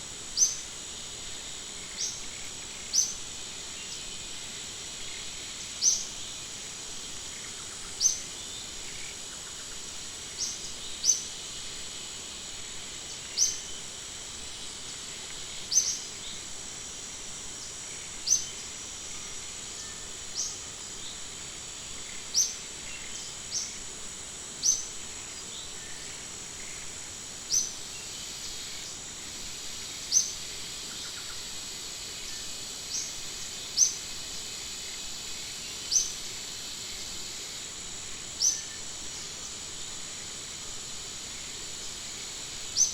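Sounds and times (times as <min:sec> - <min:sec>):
high-pitched insect drone: 0:00.0 - 0:42.9.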